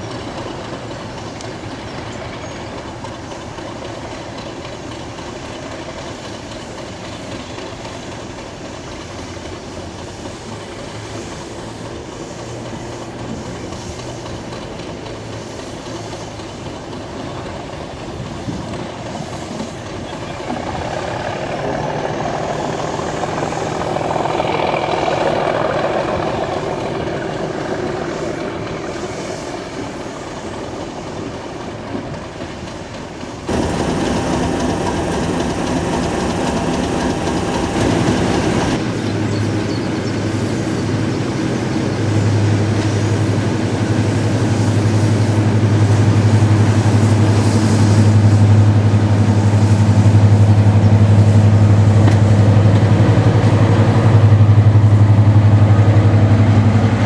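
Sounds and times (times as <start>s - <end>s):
diesel locomotive passing: 0.0s - 57.0s.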